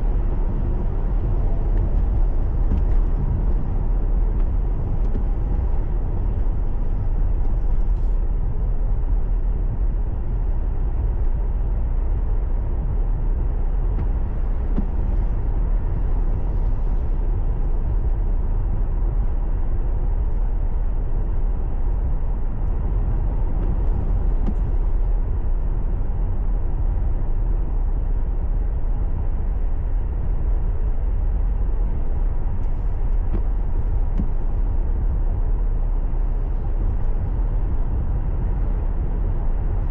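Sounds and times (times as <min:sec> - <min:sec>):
car road rumble inside cabin: 0:00.0 - 0:39.9.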